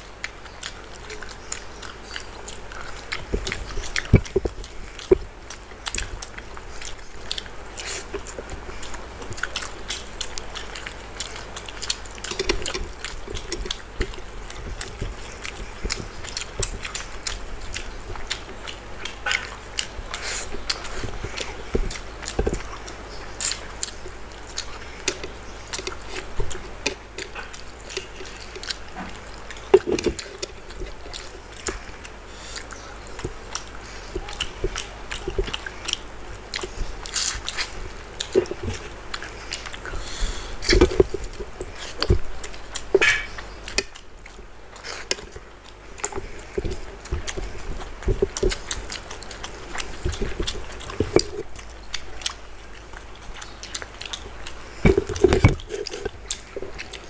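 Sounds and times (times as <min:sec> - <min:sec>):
chewing and mouth smacking: 0:00.0 - 0:57.0
fingers squelching food: 0:00.0 - 0:57.0.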